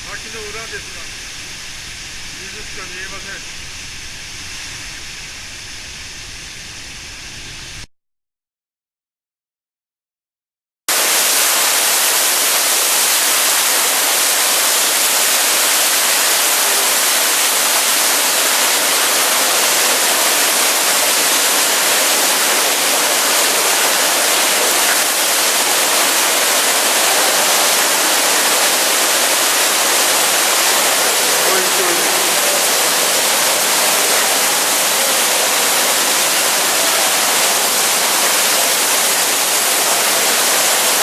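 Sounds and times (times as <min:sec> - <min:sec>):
waterfall rushing: 0:00.0 - 0:07.8, 0:10.9 - 0:41.0.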